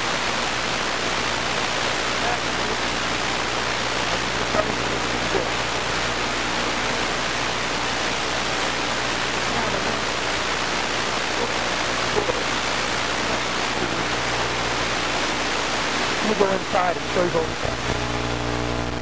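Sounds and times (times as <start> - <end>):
steady loud hiss: 0.0 - 19.0.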